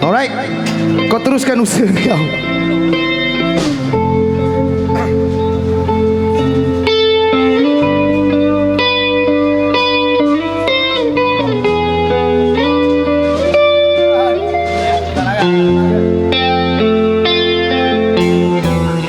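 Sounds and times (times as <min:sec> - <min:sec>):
electric guitar lines: 0:00.0 - 0:19.0
steady bass: 0:00.0 - 0:19.0
sustained chords: 0:00.0 - 0:19.0.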